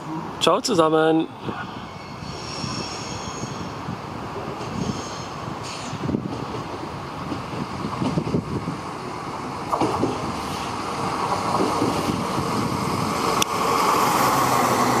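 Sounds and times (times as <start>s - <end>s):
diesel railcar engine and rolling: 0.0s - 15.0s.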